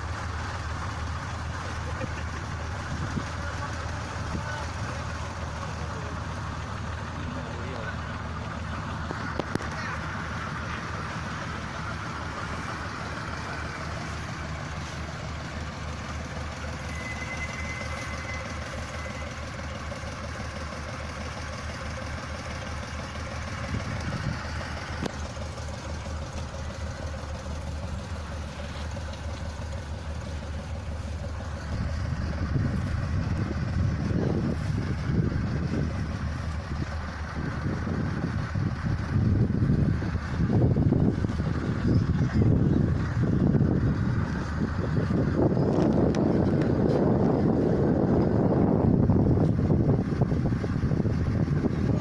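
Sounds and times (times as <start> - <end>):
diesel engine running steadily: 0.0 - 52.0.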